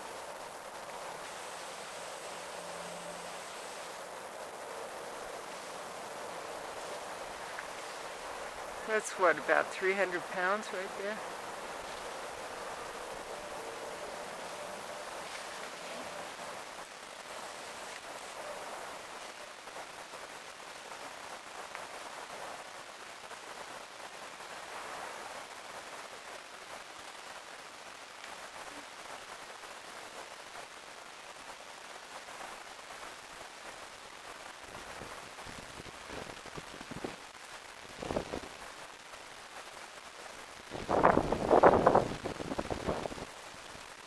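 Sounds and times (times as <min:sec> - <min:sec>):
faint outdoor hiss: 0:00.0 - 0:44.0.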